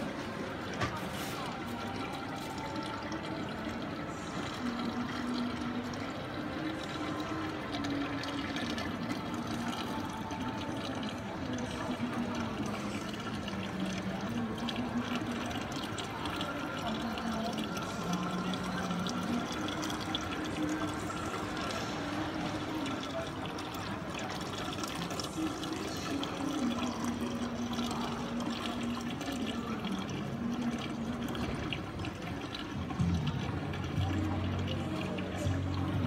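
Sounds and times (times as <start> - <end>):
water rushing and trickling: 0.0 - 36.0.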